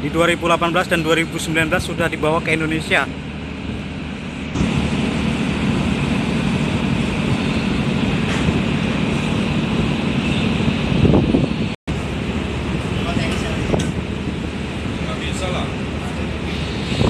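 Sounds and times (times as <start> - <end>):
ship engines droning: 0.0 - 17.0.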